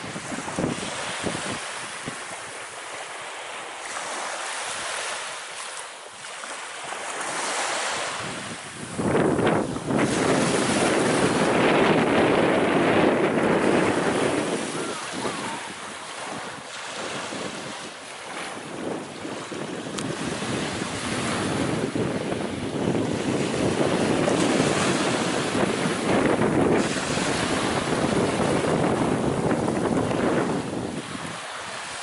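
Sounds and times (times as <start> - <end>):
wind buffeting microphone: 0.0 - 2.6, 7.1 - 32.0
waves breaking on a beach: 0.0 - 32.0.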